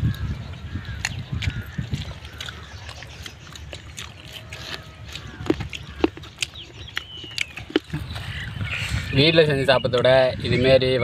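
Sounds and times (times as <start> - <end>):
people chewing and lip smacking: 0.0 - 9.1.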